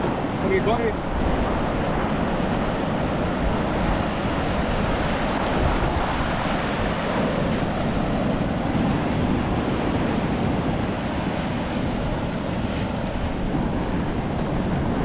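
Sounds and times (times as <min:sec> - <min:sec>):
ocean surf breaking: 0:00.0 - 0:15.0
wind on microphone: 0:00.0 - 0:15.0.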